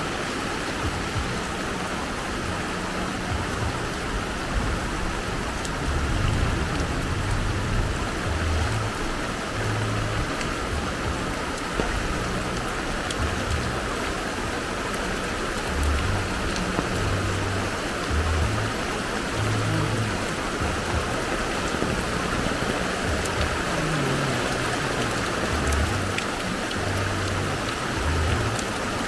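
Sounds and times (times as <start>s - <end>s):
heavy rain: 0.0s - 29.0s
low dull thumps: 0.7s - 28.8s.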